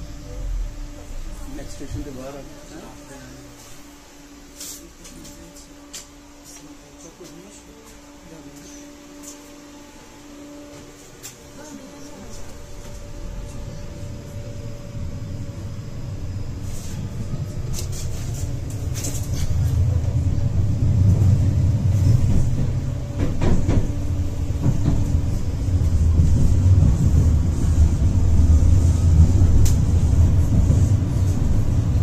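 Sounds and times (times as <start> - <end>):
tram rumble on rails: 0.0 - 32.0.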